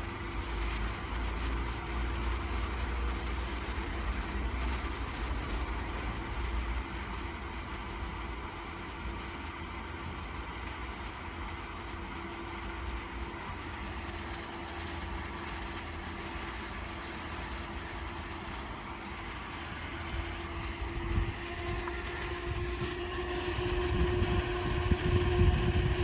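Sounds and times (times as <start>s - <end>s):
welding machine humming: 0.0s - 26.0s.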